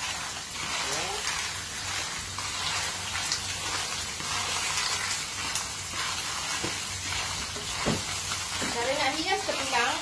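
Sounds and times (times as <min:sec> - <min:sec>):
clams sizzling in a wok: 0:00.0 - 0:10.0
spatula scraping the pan: 0:00.0 - 0:10.0.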